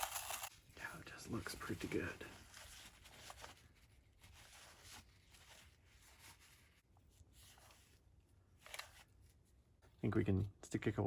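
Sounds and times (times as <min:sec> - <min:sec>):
faint rustles and handling noises: 0:00.0 - 0:10.6.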